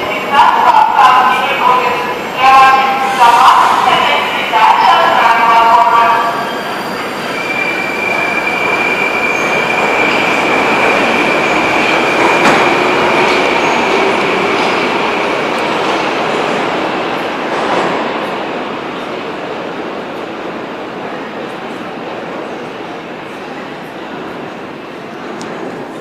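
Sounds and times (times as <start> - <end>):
metro train rolling rumble: 0.0 - 26.0.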